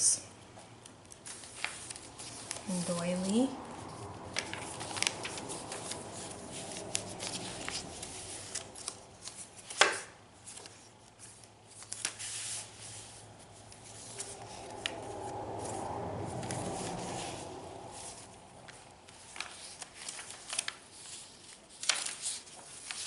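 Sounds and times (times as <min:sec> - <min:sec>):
paper pages rustling: 0:00.9 - 0:23.0.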